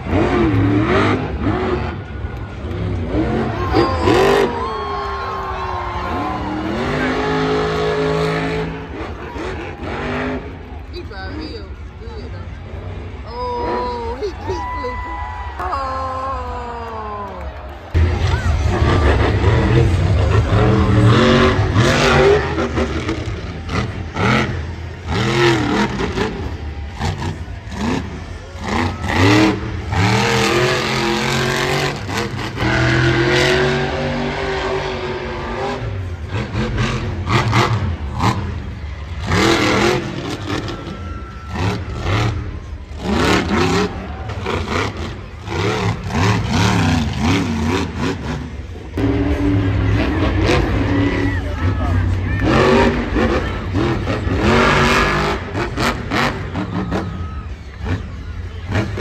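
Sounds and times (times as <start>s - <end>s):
monster truck engines revving: 0.0s - 59.0s.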